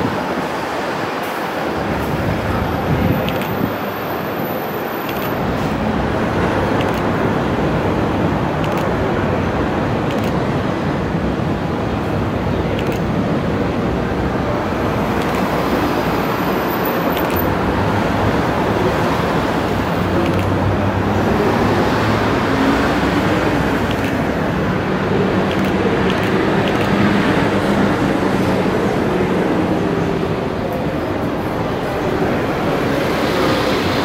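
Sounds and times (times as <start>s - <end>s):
bus passing close: 0.0s - 34.0s
city road traffic: 0.0s - 34.0s.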